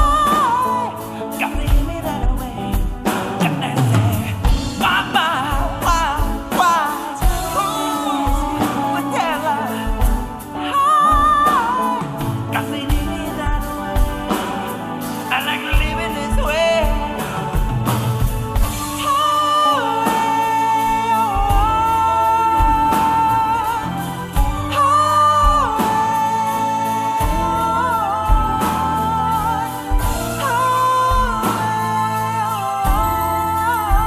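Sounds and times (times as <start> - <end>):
live band playing: 0.0 - 34.0
wordless singing: 0.0 - 34.0.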